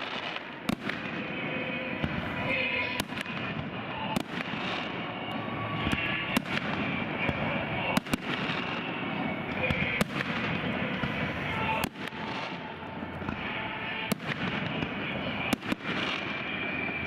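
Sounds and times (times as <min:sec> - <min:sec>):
fireworks bursting with bangs: 0:00.0 - 0:17.0
fireworks crackle: 0:00.0 - 0:17.0.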